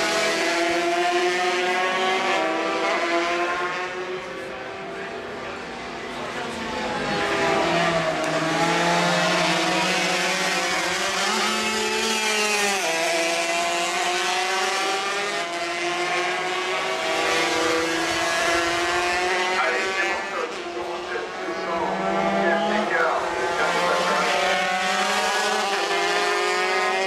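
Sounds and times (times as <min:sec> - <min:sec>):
racing motorcycles engines: 0:00.0 - 0:27.0.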